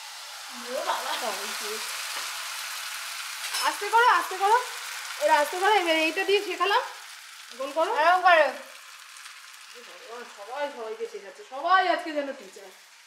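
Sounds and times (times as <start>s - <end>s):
batter sizzling in a pan: 0.0s - 13.0s.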